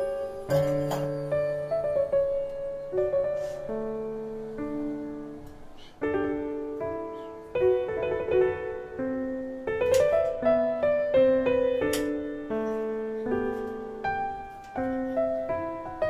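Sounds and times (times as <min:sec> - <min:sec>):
slow solo piano music: 0:00.0 - 0:16.0.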